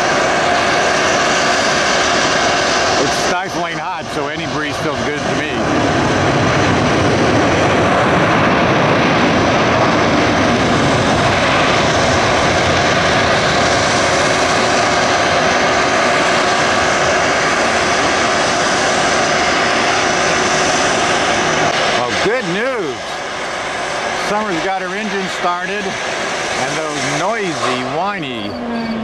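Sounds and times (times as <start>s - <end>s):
jet airliner rush: 0.0s - 29.0s.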